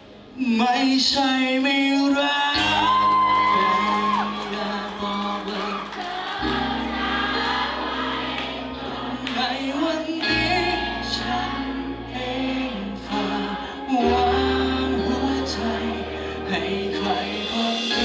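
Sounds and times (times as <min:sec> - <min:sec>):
amplified backing music: 0:00.0 - 0:18.0
man singing into microphone: 0:00.4 - 0:06.2, 0:09.2 - 0:18.0.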